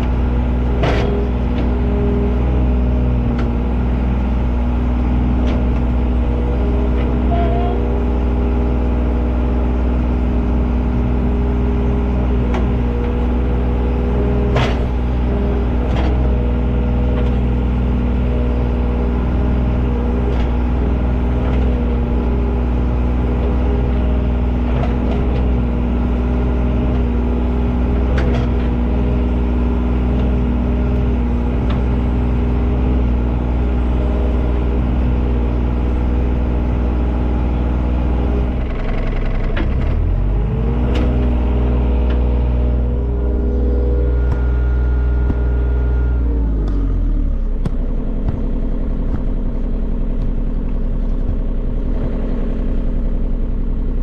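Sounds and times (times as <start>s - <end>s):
large engine running: 0.0s - 54.0s.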